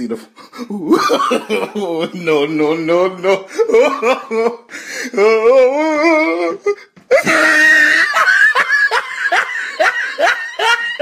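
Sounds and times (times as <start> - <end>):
person laughing hard: 0.7 - 2.4, 3.2 - 11.0.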